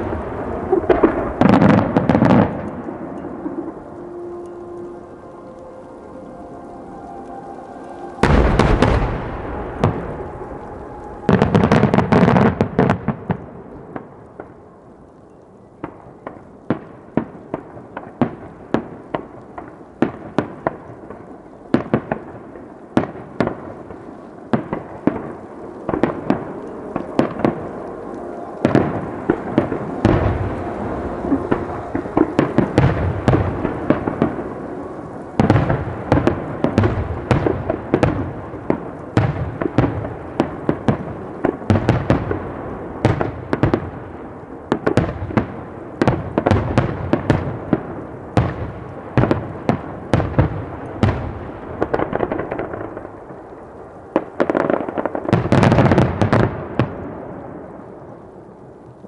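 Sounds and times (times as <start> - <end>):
rumbling echo: 0.0 - 15.1, 15.8 - 59.0.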